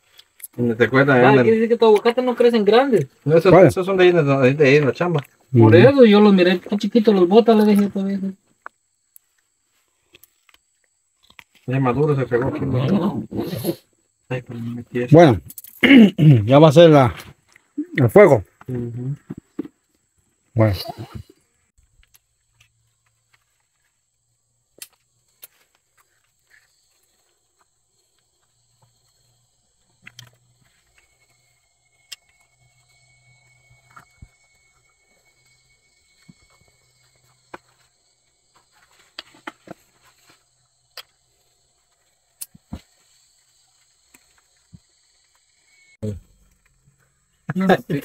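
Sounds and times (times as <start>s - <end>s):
insect chirring: 0.0s - 48.0s.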